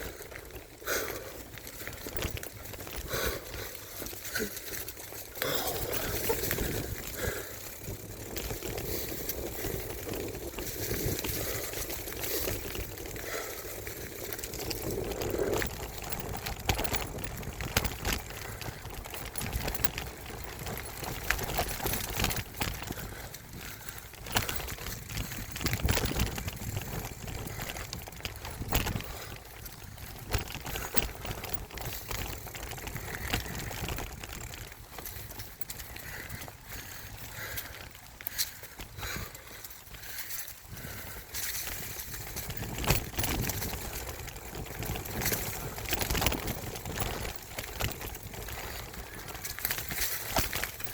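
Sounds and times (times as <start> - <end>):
bike knocks and rattles: 0.0 - 50.9
tyres rolling on dirt: 0.0 - 50.9.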